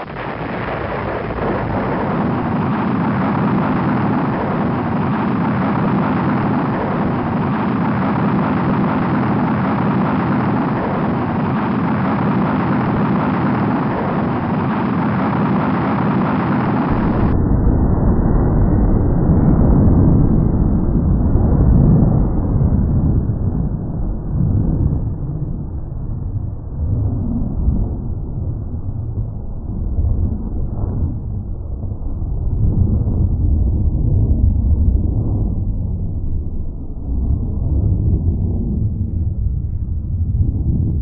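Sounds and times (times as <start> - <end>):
rocket engine rumbling: 0.0 - 41.0.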